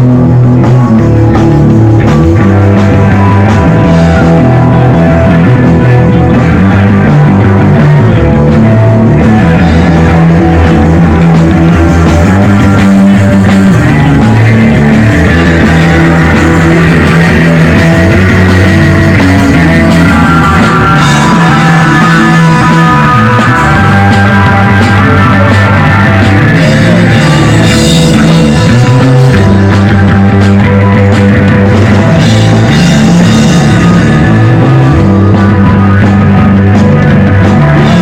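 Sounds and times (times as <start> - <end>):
drums: 0.0 - 38.0
electric guitar: 0.0 - 38.0
rock music: 0.0 - 38.0.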